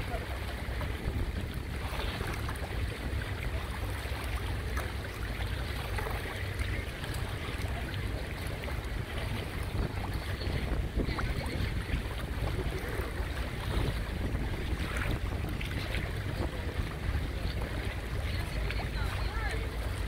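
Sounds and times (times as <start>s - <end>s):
seawater sloshing and lapping: 0.0s - 20.0s
wind rumble on microphone: 0.0s - 20.0s.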